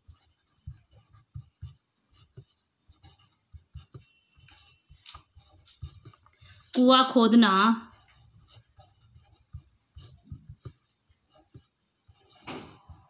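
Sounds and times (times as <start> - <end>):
pen writing on paper: 0.0 - 6.8, 7.8 - 13.0.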